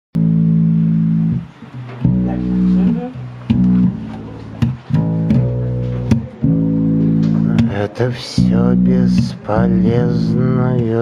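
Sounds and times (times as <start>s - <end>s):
electric bass guitar notes: 0.2s - 11.0s.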